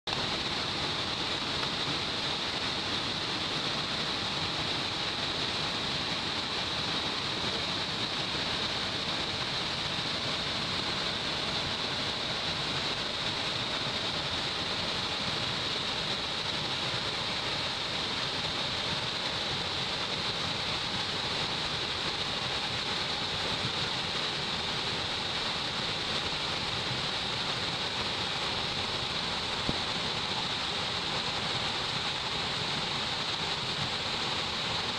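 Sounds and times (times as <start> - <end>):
waterfall rushing and splashing: 0.1 - 34.9.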